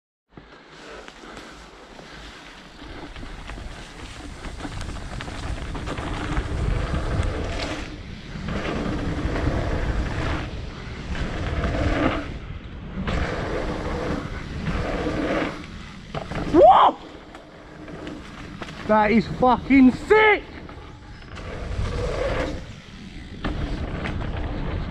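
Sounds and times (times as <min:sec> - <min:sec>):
bike tyres rolling over dirt: 0:00.3 - 0:24.9
wind rushing over microphone: 0:02.7 - 0:24.9.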